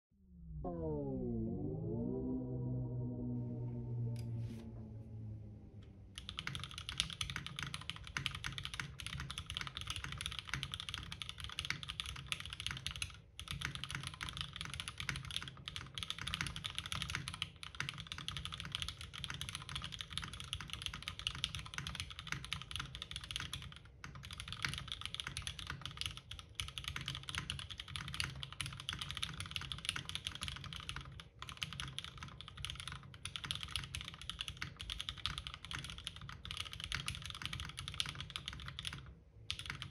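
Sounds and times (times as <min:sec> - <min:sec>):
fast typing on mechanical keyboard: 0:06.2 - 0:39.9.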